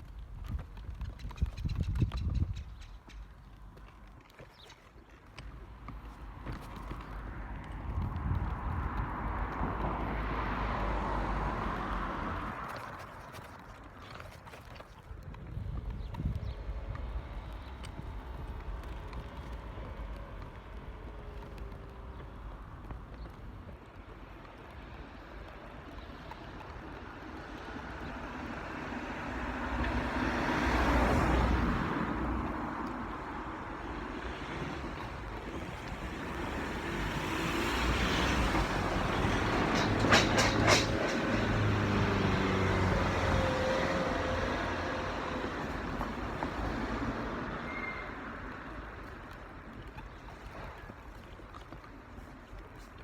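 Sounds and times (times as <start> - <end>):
vehicles passing on road: 0.0 - 53.0.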